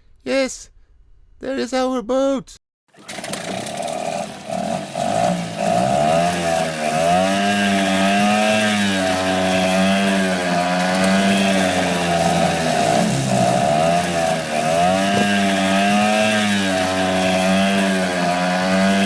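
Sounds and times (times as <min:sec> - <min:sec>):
small boat motor buzzing: 0:02.9 - 0:19.0.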